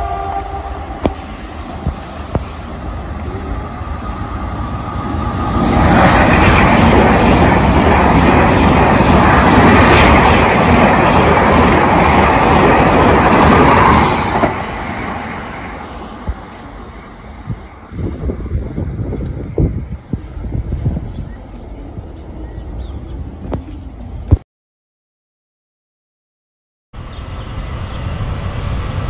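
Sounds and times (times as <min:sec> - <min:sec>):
electric train passing: 0:00.0 - 0:24.2, 0:27.0 - 0:29.0.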